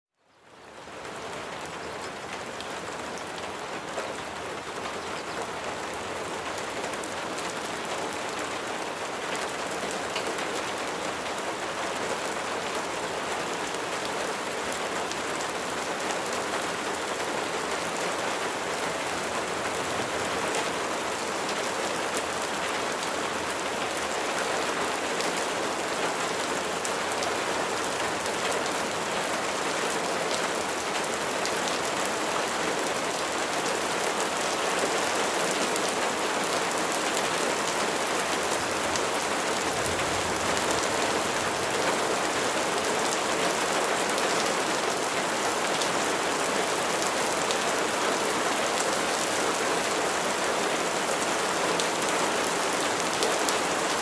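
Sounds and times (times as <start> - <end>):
rain pattering: 0.2 - 54.0.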